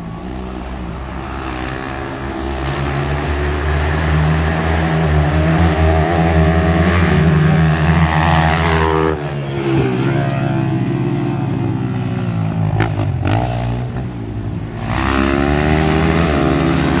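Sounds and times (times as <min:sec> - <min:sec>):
dirt bike engine revving: 0:01.2 - 0:17.0.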